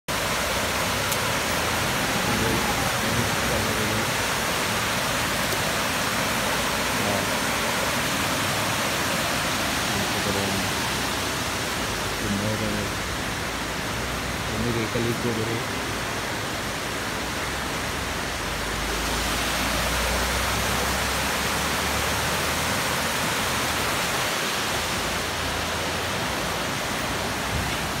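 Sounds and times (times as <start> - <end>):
river water rushing over weir: 0.1 - 28.0.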